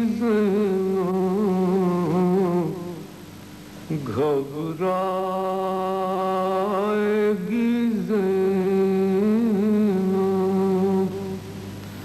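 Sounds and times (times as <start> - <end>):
man chanting melodically: 0.0 - 3.1, 3.9 - 11.5.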